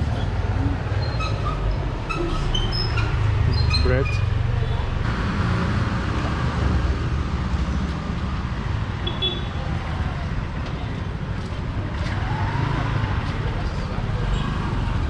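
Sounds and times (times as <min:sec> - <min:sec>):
passing vehicles rumbling: 0:00.0 - 0:15.0.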